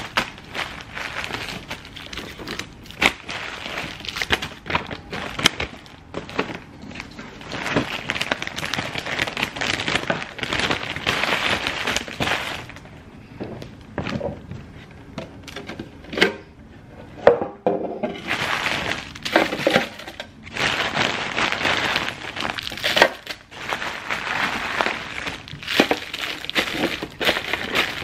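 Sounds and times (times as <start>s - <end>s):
plastic candy wrappers crinkling: 0.0s - 13.0s, 18.2s - 28.0s.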